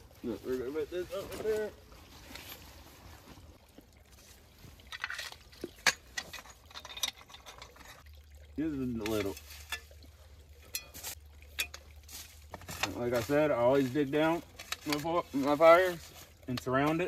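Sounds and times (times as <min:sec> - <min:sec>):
rocks knocking and scraping: 0:00.2 - 0:08.0, 0:10.6 - 0:17.0.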